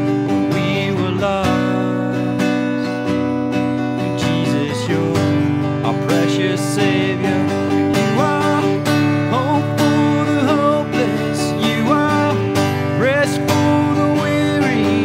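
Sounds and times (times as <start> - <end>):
acoustic guitar strumming: 0.0 - 15.0
man singing: 0.0 - 15.0.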